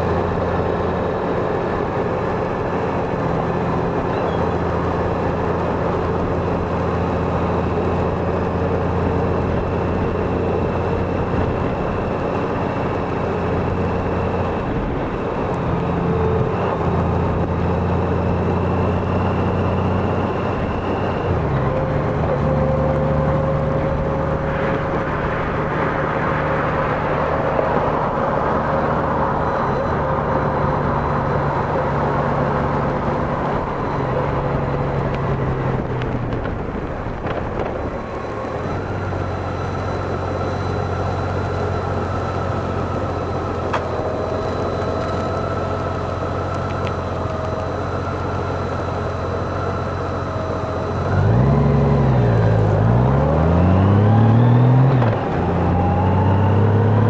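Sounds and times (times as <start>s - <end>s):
motorcycle engine cruising: 0.0s - 57.0s
road noise: 0.0s - 57.0s.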